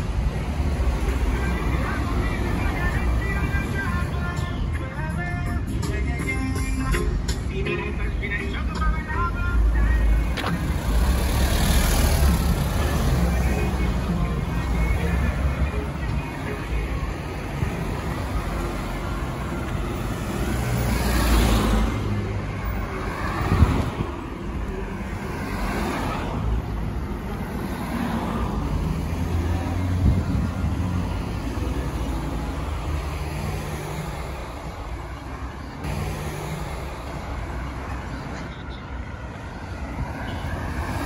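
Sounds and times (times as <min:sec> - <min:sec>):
cars passing: 0:00.0 - 0:41.0
traffic rumble: 0:00.0 - 0:41.0.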